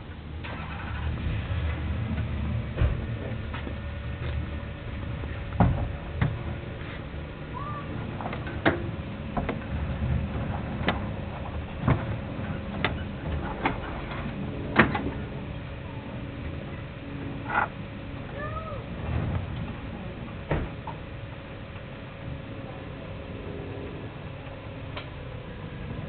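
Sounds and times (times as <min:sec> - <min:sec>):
vehicle low rumble: 0:00.0 - 0:26.0.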